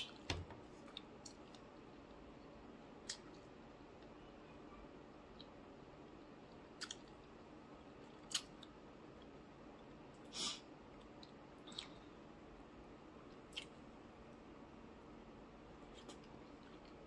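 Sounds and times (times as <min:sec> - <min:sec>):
faint eating sounds: 0:00.0 - 0:17.0.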